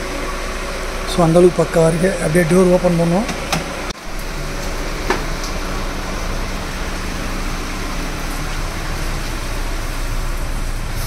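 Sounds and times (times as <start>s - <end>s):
air-conditioner blowers rushing: 0.0s - 11.0s.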